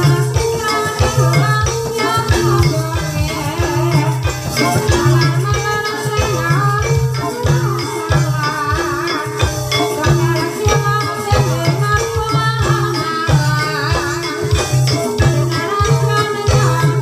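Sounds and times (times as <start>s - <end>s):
tuned metallic notes: 0.0s - 17.0s
wavering vocal melody: 0.0s - 17.0s.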